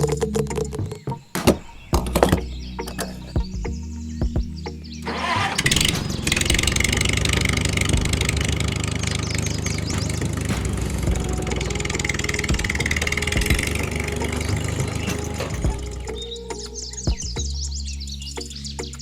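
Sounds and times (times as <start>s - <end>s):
engine running steadily: 2.4s - 18.0s.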